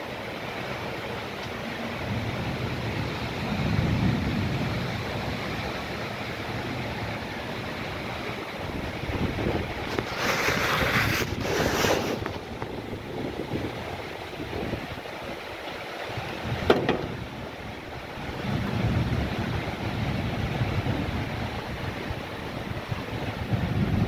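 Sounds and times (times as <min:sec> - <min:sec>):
heavy rain pouring: 0:00.0 - 0:24.0
wind gusting against microphone: 0:01.5 - 0:24.0.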